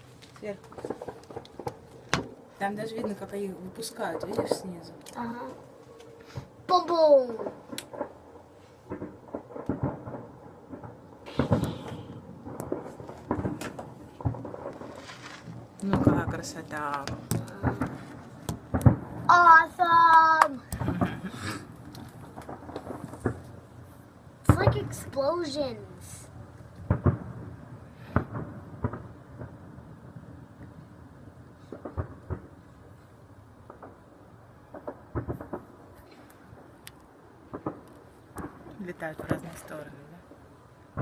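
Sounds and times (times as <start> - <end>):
distant fireworks booming: 0.0 - 41.0
fireworks crackling: 0.0 - 41.0.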